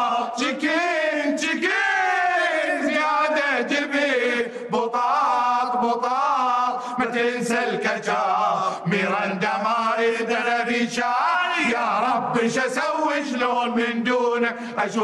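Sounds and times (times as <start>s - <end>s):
men singing together: 0.0s - 15.0s.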